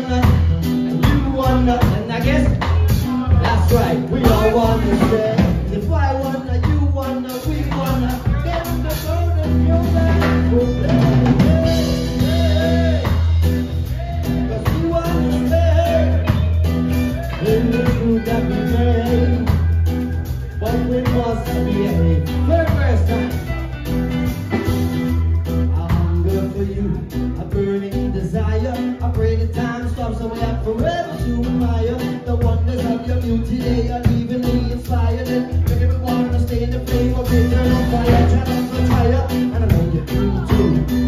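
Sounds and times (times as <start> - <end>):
bass line: 0.0 - 41.0
drum kit: 0.0 - 41.0
guitars playing: 0.0 - 41.0
person singing: 0.0 - 41.0.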